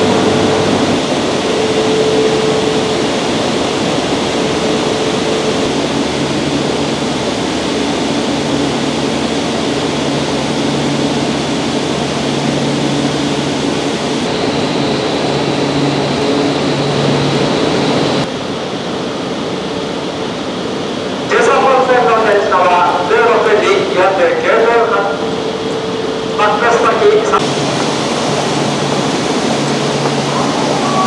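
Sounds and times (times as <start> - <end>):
stopped train equipment humming: 0.0 - 31.0.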